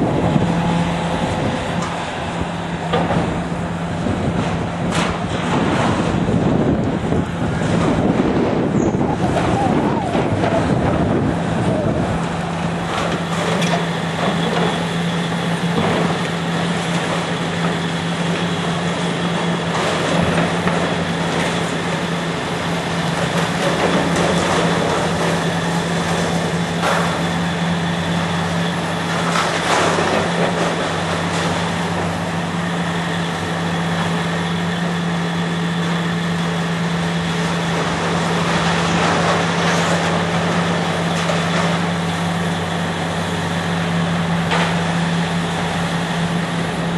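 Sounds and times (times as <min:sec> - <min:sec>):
diesel engine running steadily: 0:00.0 - 0:46.9.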